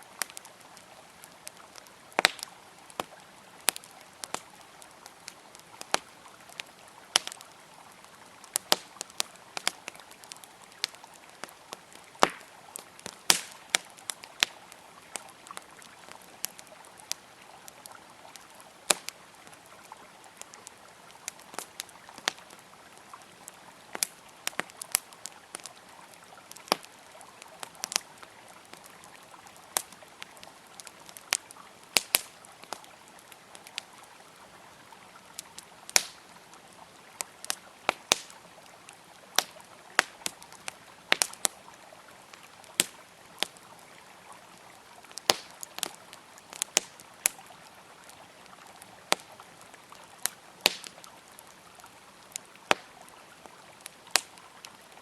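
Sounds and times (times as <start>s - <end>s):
campfire crackling and popping: 0.0s - 55.0s
flowing river water: 0.0s - 55.0s.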